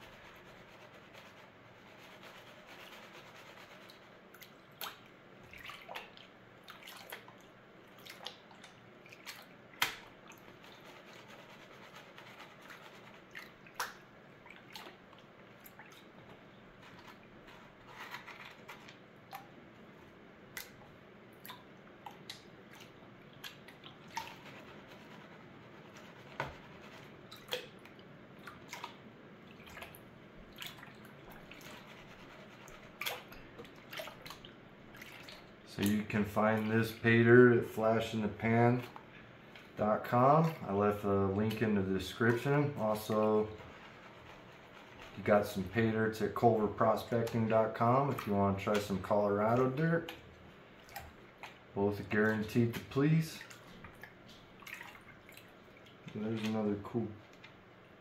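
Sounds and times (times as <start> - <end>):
water swishing in a gold pan: 0.0 - 58.0.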